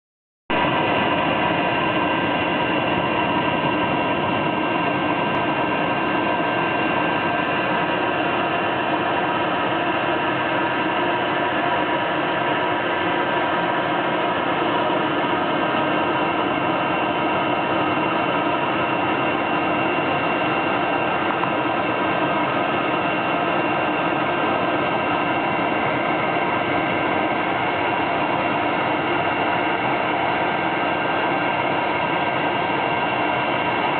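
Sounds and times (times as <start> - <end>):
blow dryer whirring: 0.6 - 33.9.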